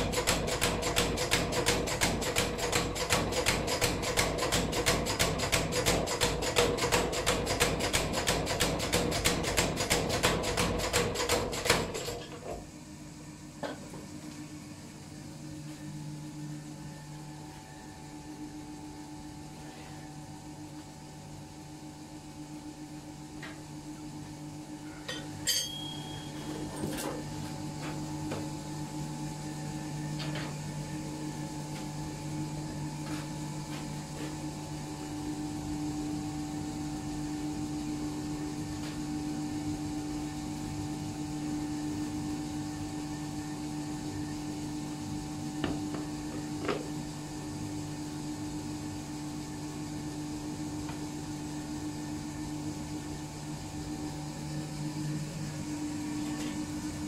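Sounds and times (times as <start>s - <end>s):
forge fan humming: 0.0s - 57.0s.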